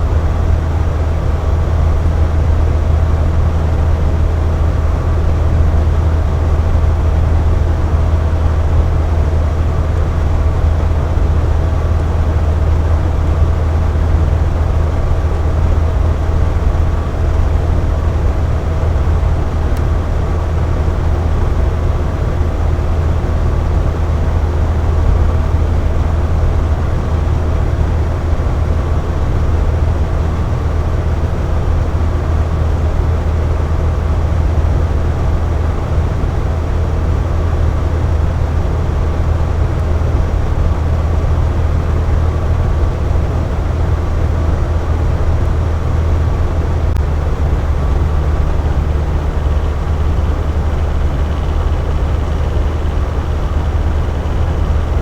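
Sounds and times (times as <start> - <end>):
box fan running: 0.0 - 55.0.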